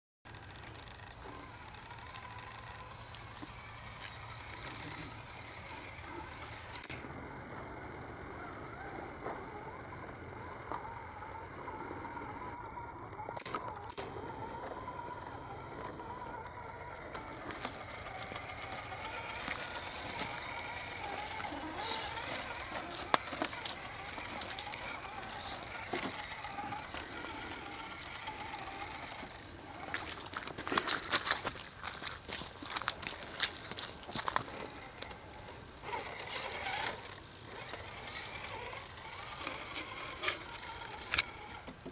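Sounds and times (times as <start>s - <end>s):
toy car electric motor whining: 0.3s - 41.9s.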